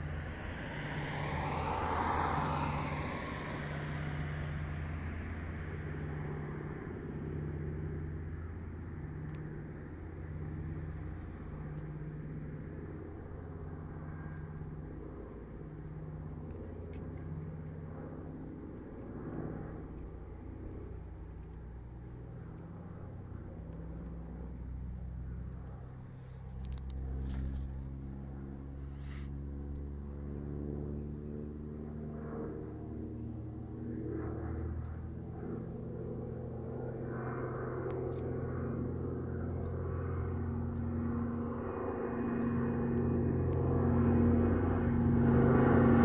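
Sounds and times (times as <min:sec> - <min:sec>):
distant propeller plane drone: 0:00.0 - 0:46.0.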